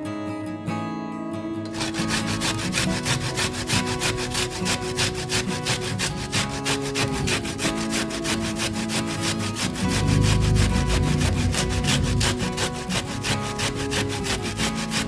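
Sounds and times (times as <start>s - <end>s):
background music: 0.0s - 15.0s
onion rasping on a grater: 1.7s - 15.0s.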